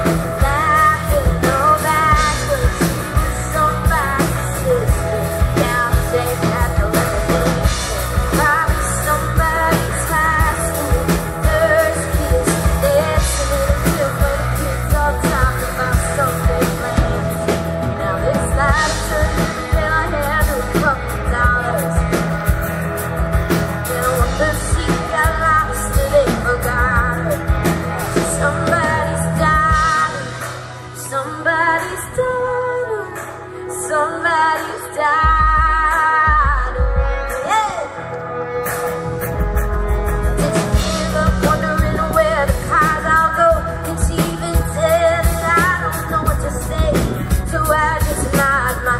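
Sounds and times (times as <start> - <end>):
woman singing lead: 0.0 - 39.0, 40.0 - 48.9
live band playing: 0.0 - 48.9.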